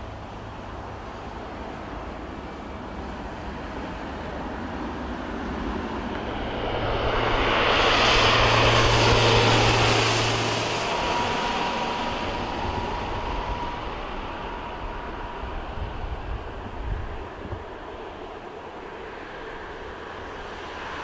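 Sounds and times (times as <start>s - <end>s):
thin steady whine: 0.0s - 21.0s
turboprop plane passing overhead: 0.0s - 21.0s.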